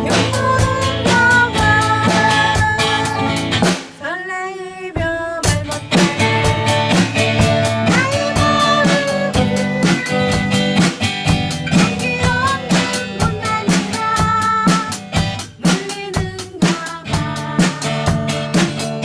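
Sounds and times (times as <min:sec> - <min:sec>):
drum kit steady beat: 0:00.0 - 0:04.0, 0:05.0 - 0:19.0
guitar chords: 0:00.0 - 0:04.0, 0:05.4 - 0:19.0.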